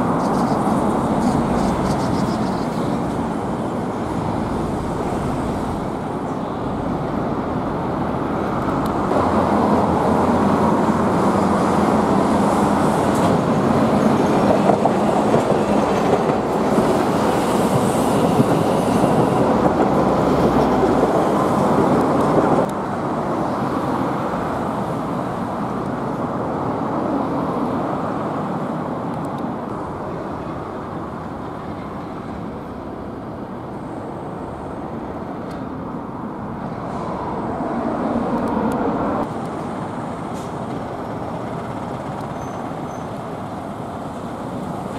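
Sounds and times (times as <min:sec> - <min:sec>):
street traffic noise: 0:00.0 - 0:44.9.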